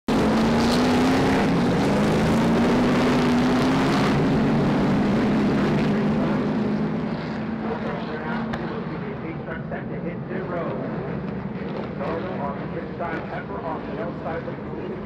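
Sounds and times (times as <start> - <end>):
race car engines droning: 0.1 - 15.0.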